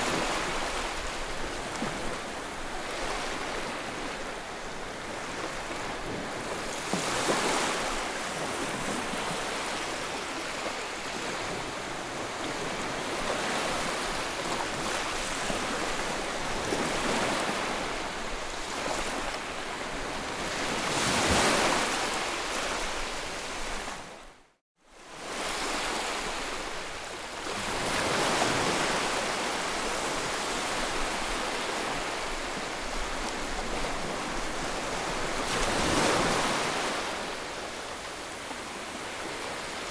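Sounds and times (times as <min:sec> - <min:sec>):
ocean waves breaking: 0:00.0 - 0:24.2, 0:25.2 - 0:39.9.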